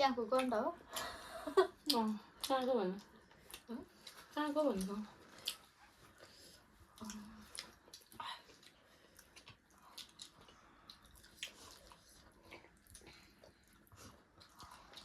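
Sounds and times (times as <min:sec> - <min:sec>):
soft wet chewing: 0:00.2 - 0:15.0.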